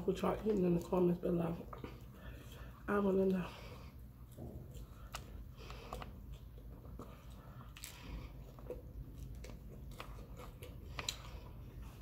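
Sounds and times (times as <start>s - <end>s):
chewing and biting food: 0.0s - 12.0s.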